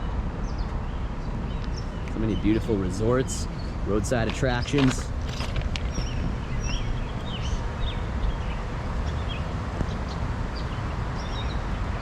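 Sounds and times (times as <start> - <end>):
low rumble of passing traffic: 0.0 - 12.0
small birds chirping: 0.0 - 12.0.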